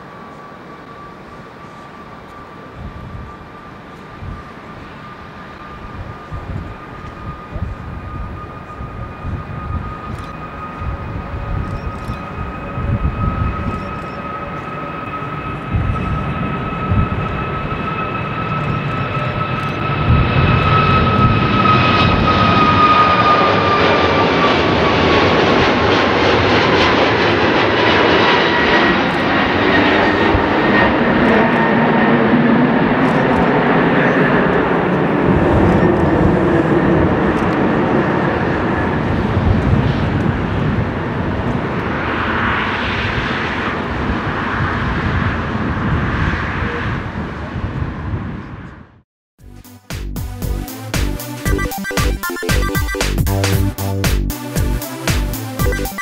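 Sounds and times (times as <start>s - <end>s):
jet engines at takeoff: 0.0s - 49.0s.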